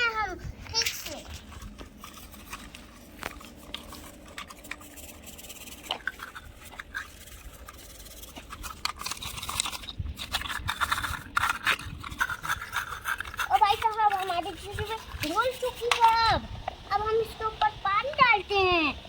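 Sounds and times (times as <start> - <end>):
hands scrubbing a toy: 0.0 - 19.0.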